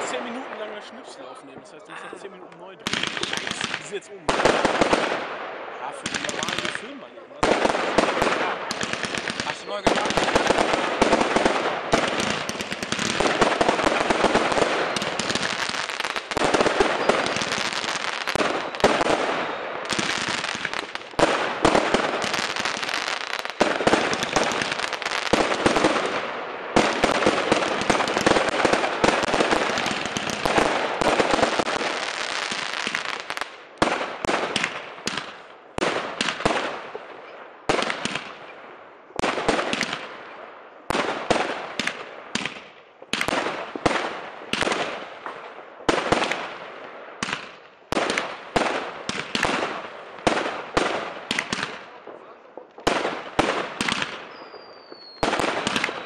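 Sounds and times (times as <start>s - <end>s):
fireworks bangs and crackle: 0.0s - 56.0s.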